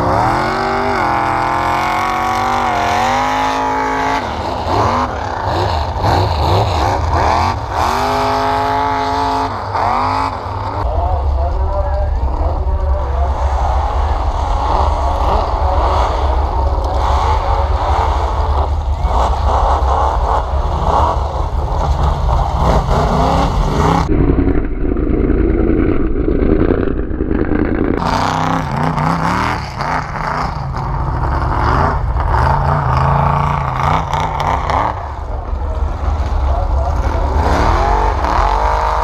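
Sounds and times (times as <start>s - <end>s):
heavy low rumble: 0.0s - 39.0s
truck engines revving: 0.0s - 39.0s.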